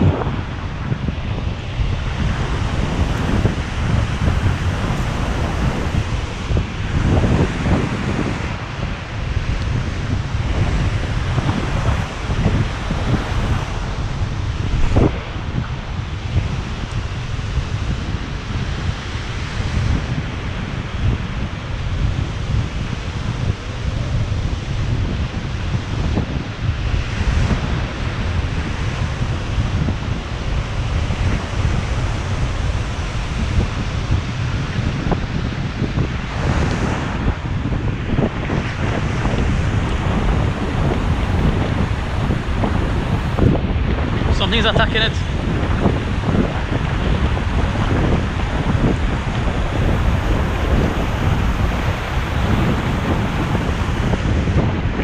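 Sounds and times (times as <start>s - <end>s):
surf washing over rocks: 0.0s - 55.0s
wind buffeting microphone: 0.0s - 55.0s.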